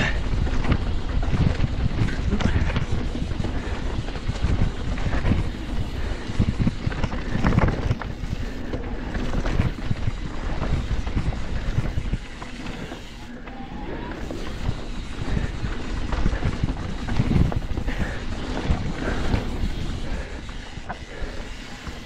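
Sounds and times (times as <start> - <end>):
wind buffeting microphone: 0.0 - 13.2, 14.2 - 22.0
bike tyres rumbling on dirt: 0.0 - 22.0.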